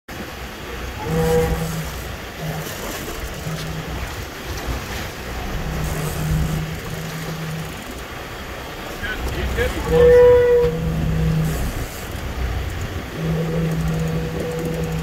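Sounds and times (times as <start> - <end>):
boat engine running: 0.1 - 15.0
choppy water: 0.1 - 15.0
low hum: 0.1 - 15.0
wind: 0.1 - 15.0.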